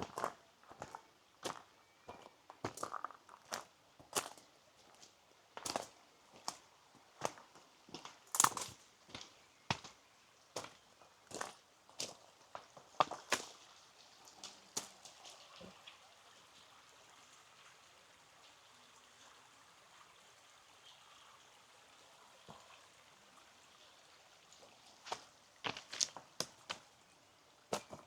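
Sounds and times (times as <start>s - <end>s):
trickling stream water: 0.0s - 28.0s.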